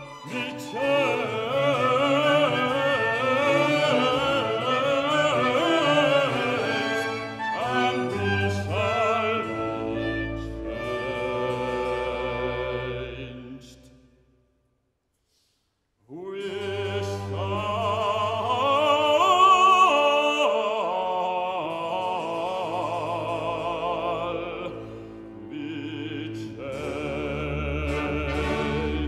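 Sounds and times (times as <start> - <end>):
string orchestra: 0.0 - 14.0, 16.2 - 29.0
baritone singing an aria: 0.2 - 13.9, 16.1 - 29.0.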